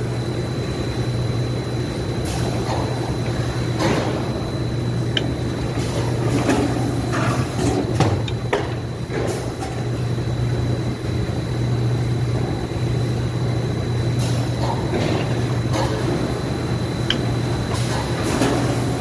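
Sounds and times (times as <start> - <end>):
factory machine humming: 0.0 - 19.0.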